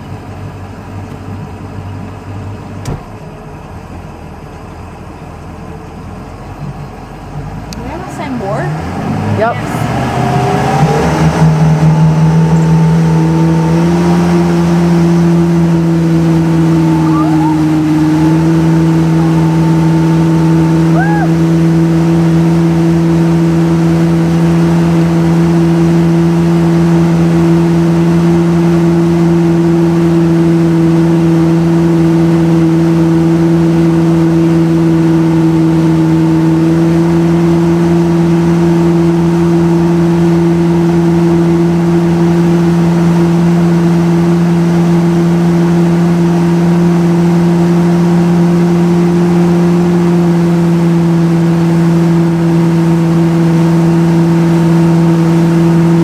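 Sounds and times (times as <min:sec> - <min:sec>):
motorboat engine droning: 0:00.0 - 0:56.0.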